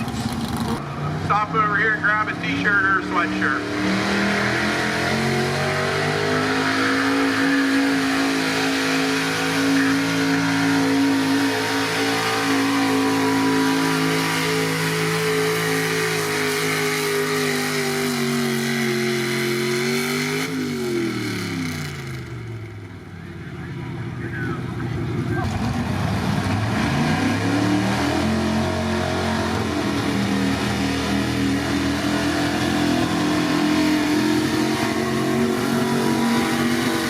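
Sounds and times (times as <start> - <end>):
truck engine at high revs: 0.0 - 37.0.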